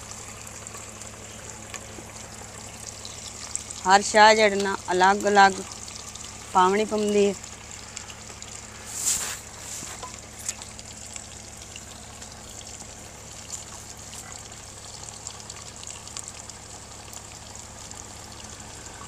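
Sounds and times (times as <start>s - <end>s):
small crackles and pops: 0.0s - 3.9s, 4.5s - 19.0s
onions sizzling in hot fat: 0.0s - 19.0s.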